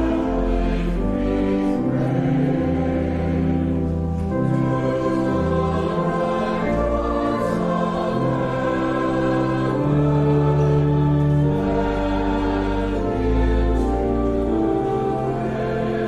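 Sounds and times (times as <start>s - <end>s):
slow church music: 0.0s - 16.0s.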